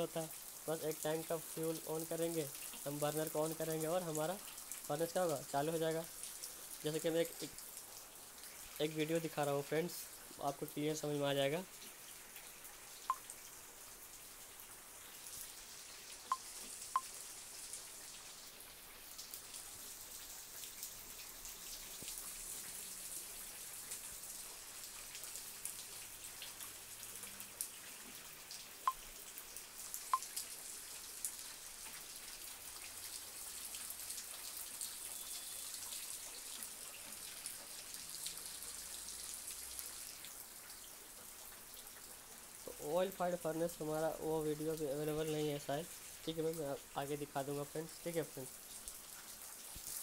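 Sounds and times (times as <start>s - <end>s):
faint steady hiss: 0.0s - 50.0s.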